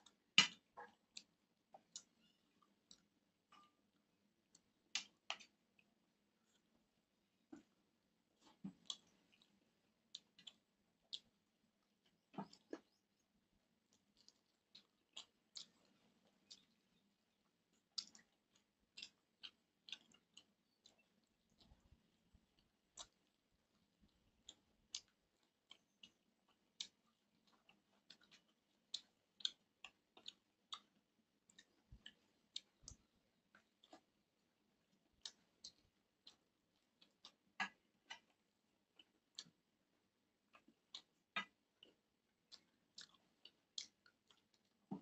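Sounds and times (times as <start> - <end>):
chewing: 0.0 - 6.8, 7.4 - 45.0
fingers mixing food on plate: 0.0 - 45.0.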